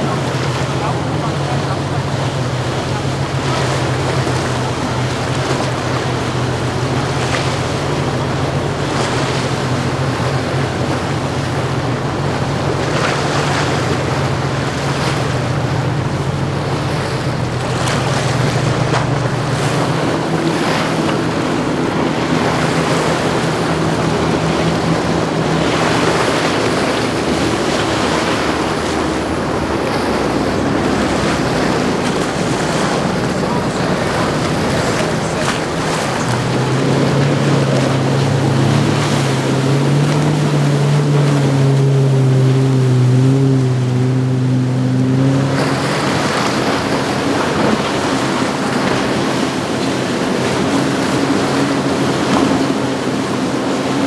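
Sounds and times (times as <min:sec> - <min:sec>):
boat engines droning: 0:00.0 - 0:54.0
boat passing at speed: 0:00.0 - 0:54.0
hull wash rushing: 0:00.0 - 0:54.0.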